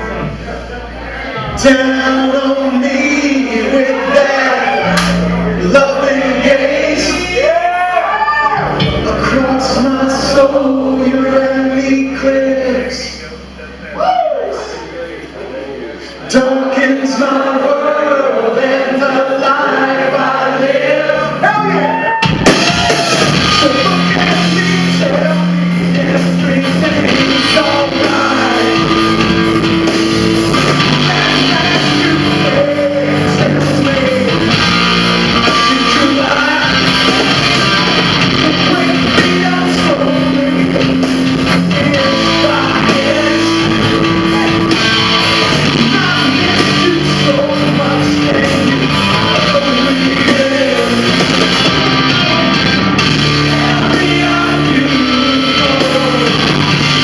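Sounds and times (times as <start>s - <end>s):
rock band playing: 0.0s - 13.9s, 18.4s - 57.0s
person singing: 1.4s - 13.3s, 22.6s - 57.0s.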